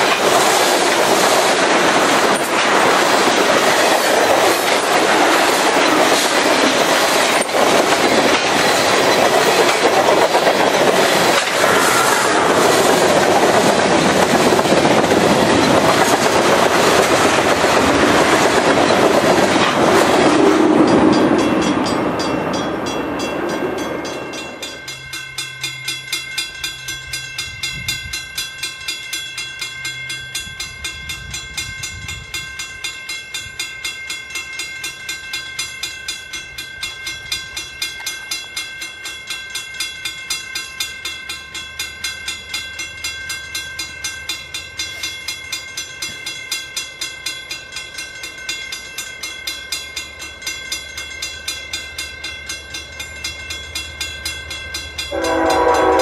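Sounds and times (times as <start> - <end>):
freight train wheels clicking: 0.0 - 56.0
level-crossing bell ringing: 3.6 - 56.0.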